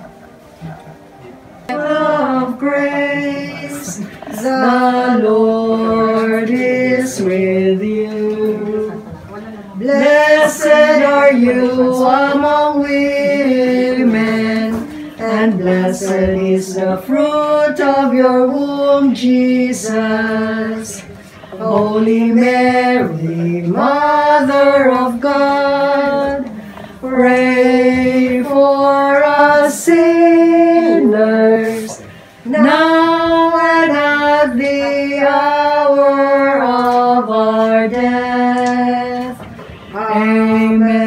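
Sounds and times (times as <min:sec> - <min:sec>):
group singing a hymn: 0:01.6 - 0:41.0.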